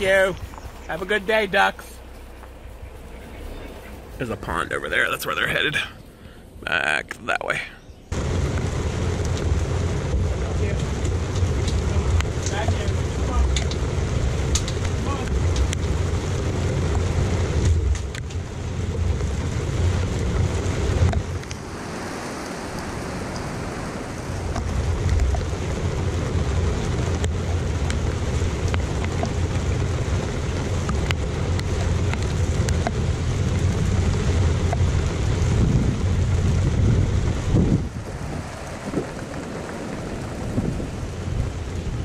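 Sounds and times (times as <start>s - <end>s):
low rumble: 0.0s - 42.0s
steady rain: 0.0s - 42.0s.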